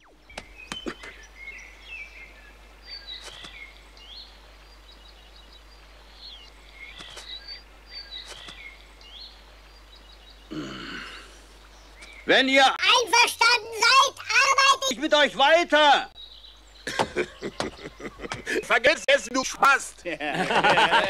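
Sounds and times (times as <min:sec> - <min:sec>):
birds chirping quietly: 0:00.0 - 0:21.0.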